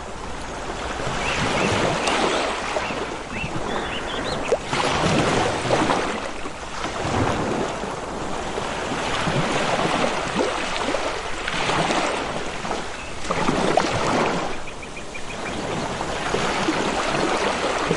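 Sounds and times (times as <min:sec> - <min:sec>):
water rushing and splashing: 0:00.0 - 0:17.9.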